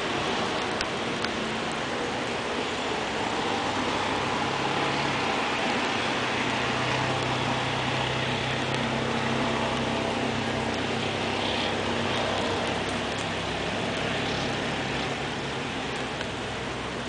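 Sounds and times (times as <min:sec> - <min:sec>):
heavy rain on water: 0:00.0 - 0:17.0
vehicle engine humming: 0:00.0 - 0:17.0.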